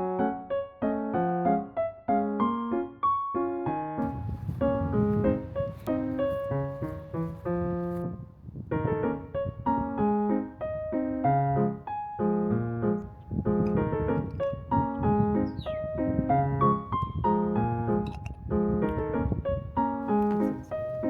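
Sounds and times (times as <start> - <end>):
piano background music: 0.0 - 21.0.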